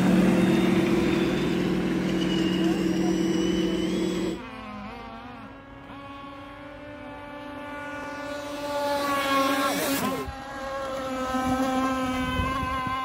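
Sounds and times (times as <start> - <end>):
model boat motor running: 0.0 - 13.0.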